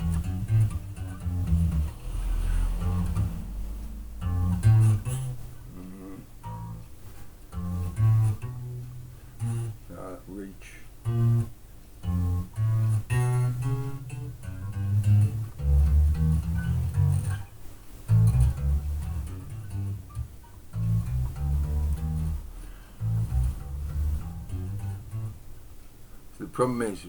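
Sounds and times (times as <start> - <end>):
electric bass guitar riff: 0.0 - 9.9, 11.0 - 25.5.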